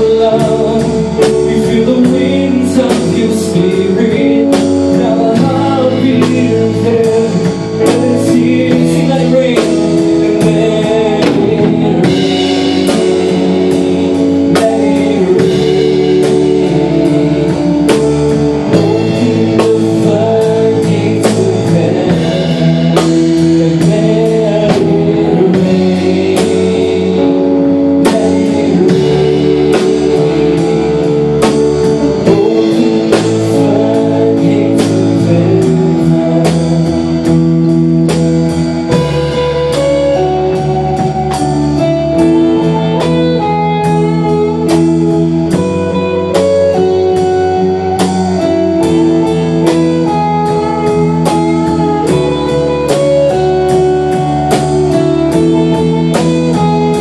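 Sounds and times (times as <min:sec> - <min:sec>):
drum kit beat: 0:00.0 - 0:57.0
guitar chords: 0:00.0 - 0:57.0.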